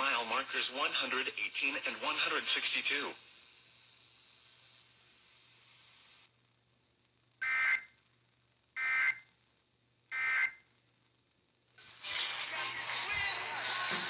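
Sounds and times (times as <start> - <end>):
faint radio hiss: 0.0 - 14.0.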